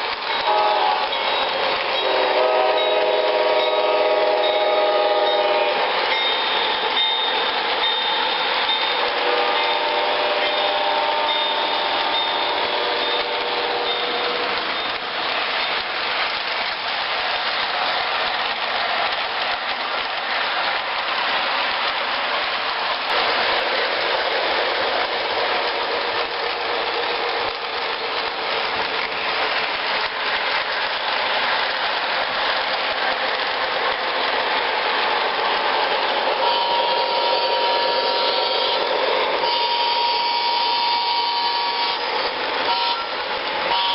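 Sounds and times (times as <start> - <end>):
train rumbling and rattling: 0.0 - 43.9.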